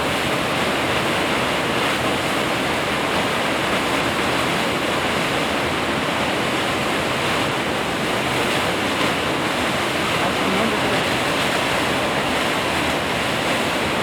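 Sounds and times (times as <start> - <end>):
waterfall crashing: 0.0 - 14.0.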